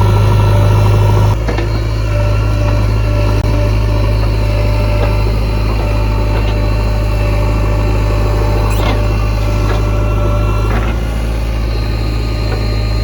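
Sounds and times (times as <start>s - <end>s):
diesel engine rumbling: 0.0s - 13.0s
high squeal: 0.0s - 13.0s.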